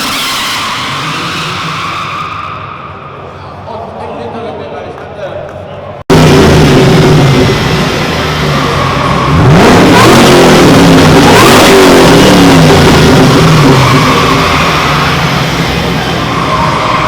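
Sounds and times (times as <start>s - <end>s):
car engines revving loud: 0.0s - 3.7s, 6.1s - 17.0s.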